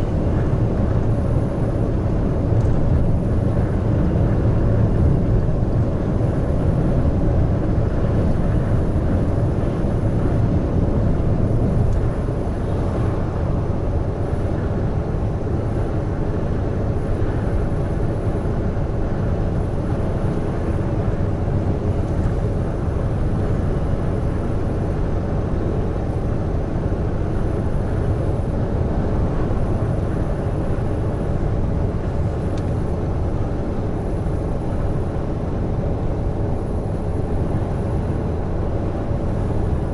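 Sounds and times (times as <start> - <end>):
steady hum: 0.0 - 39.9
truck engine drone: 0.0 - 39.9.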